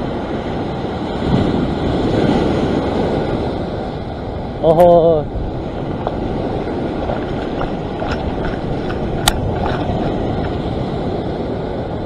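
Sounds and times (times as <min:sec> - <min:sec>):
surf washing over rocks: 0:00.0 - 0:12.0.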